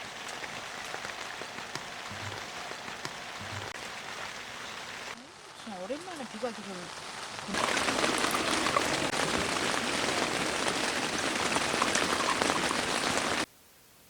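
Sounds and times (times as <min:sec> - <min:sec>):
heavy rain falling: 0:00.0 - 0:13.5.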